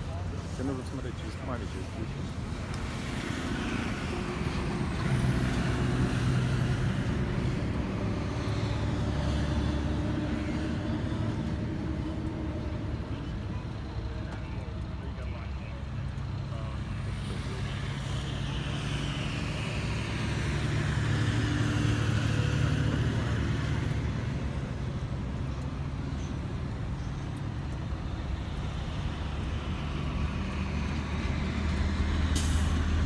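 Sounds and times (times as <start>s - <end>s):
passing vehicle: 0.0s - 33.0s
road and traffic noise: 0.0s - 33.0s.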